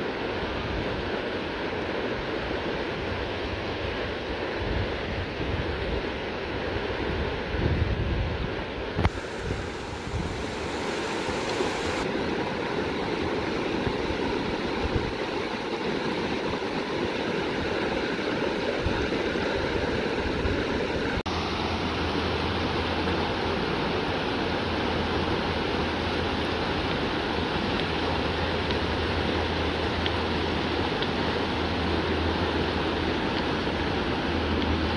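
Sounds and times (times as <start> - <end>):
river rushing over stones: 0.0 - 34.9.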